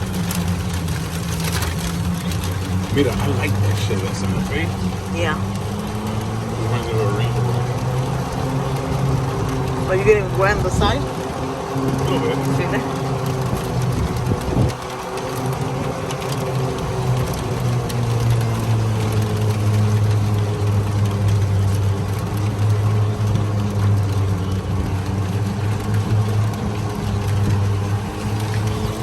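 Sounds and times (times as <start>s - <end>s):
golf cart humming: 0.0s - 29.0s
rush of air and rain: 0.0s - 29.0s.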